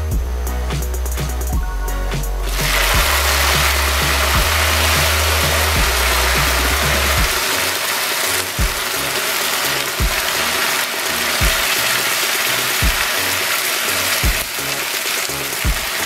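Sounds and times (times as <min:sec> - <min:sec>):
background music with deep beat: 0:00.0 - 0:16.0
food sizzling in hot oil: 0:02.5 - 0:16.0.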